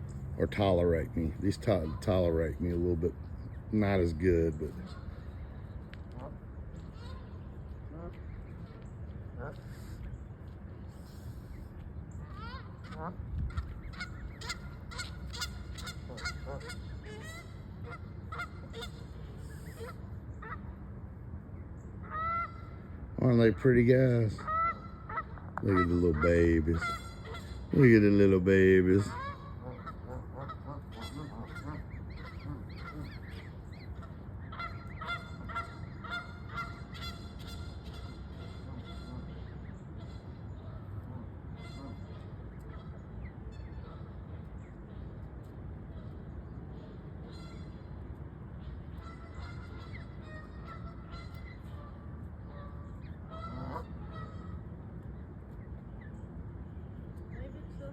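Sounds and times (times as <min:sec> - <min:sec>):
goslings peeping: 0:00.4 - 0:20.8, 0:21.9 - 0:45.2, 0:45.8 - 0:56.8
geese honking: 0:00.5 - 0:03.1, 0:03.8 - 0:10.0, 0:12.2 - 0:20.8, 0:22.0 - 0:44.5, 0:45.9 - 0:48.0, 0:48.6 - 0:54.8.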